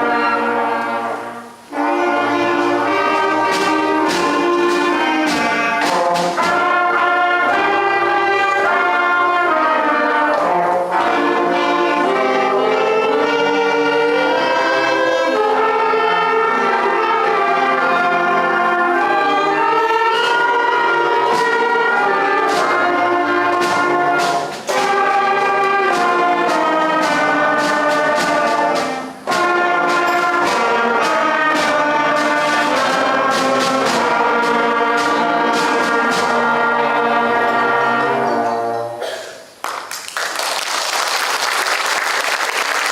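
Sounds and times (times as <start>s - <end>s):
concert band of woodwinds and brass: 0.0s - 39.3s.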